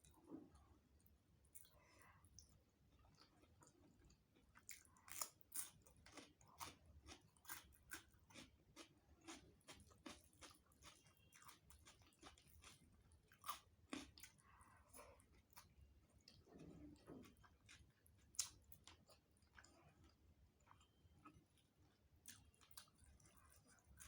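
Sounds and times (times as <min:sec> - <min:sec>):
person chewing crunchy food: 0:02.9 - 0:24.0.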